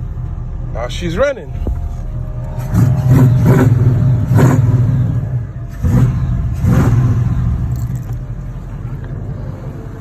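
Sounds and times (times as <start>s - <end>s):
car engine revving: 1.7s - 10.0s.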